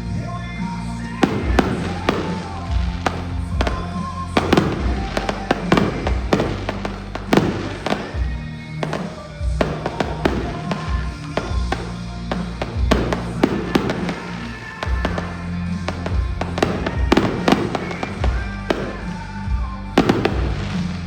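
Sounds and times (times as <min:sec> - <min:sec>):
fireworks bangs: 0:00.0 - 0:21.0
music with bass line: 0:00.0 - 0:21.0.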